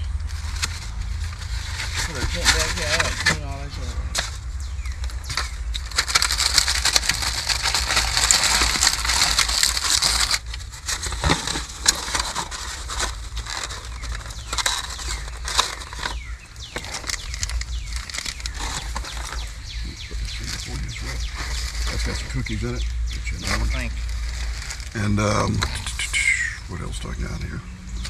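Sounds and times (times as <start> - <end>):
plastic packaging crinkling: 0.0 - 25.5.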